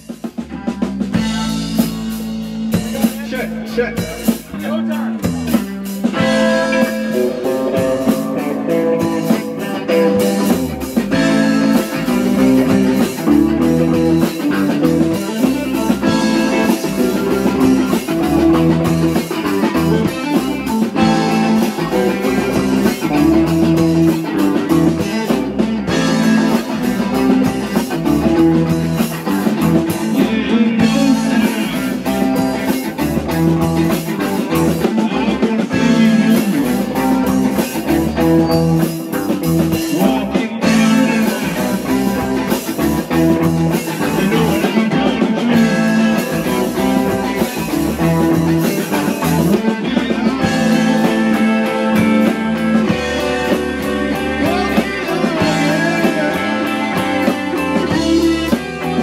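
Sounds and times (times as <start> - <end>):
bass guitar: 0.0 - 59.0
drum kit with cymbals: 0.0 - 59.0
electric guitar: 0.0 - 59.0.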